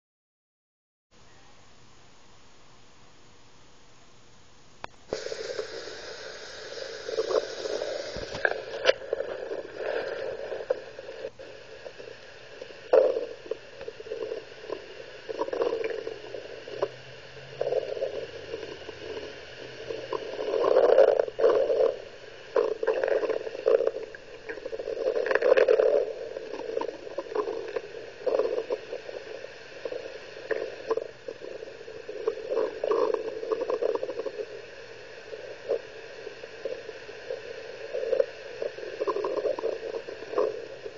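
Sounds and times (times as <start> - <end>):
device hiss: 4.8 - 40.9
stomach gurgling: 5.1 - 40.9.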